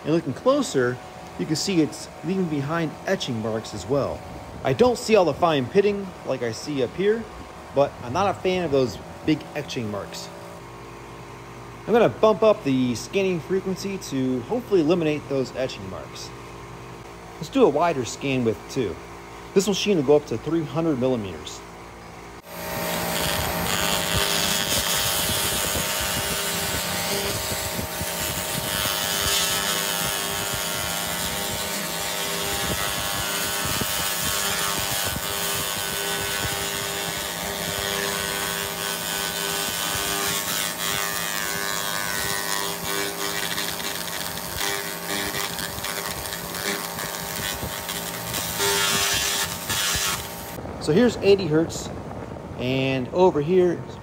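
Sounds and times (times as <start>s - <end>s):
constant machine hum: 0.0s - 54.0s.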